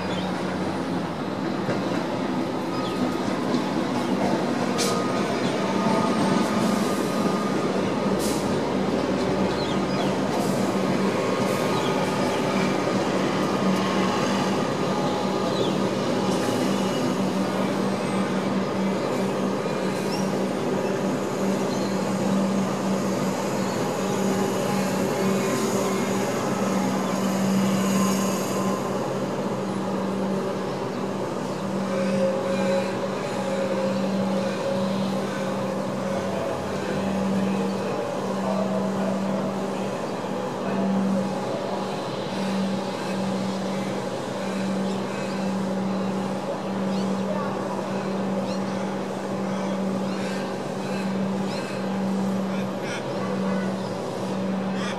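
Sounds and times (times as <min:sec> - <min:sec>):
electric train humming: 0:00.0 - 0:54.9.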